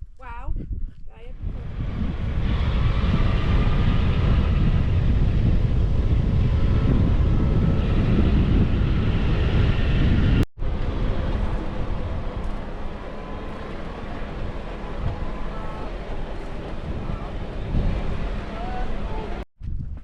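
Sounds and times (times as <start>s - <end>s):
vehicle driving on dirt road: 1.4s - 19.4s.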